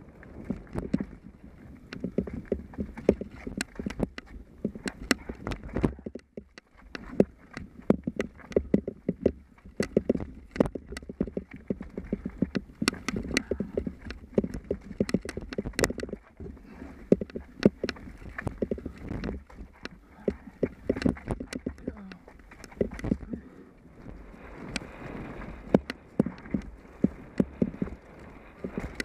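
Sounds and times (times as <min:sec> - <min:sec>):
bike knocking and rattling on rocks: 0:00.0 - 0:29.0.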